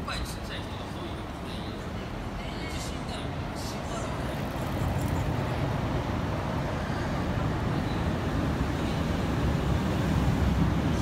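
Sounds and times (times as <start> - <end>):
cars passing on busy road: 0.0 - 11.0.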